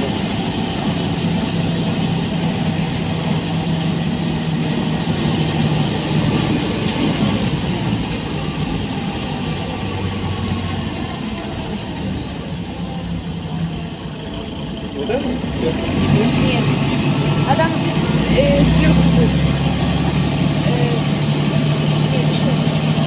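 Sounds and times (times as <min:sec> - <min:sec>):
bus engine from inside: 0:00.0 - 0:23.0.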